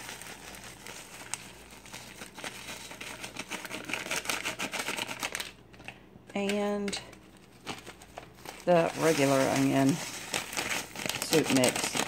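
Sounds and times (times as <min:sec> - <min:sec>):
paper packet crinkling: 0:00.0 - 0:12.0.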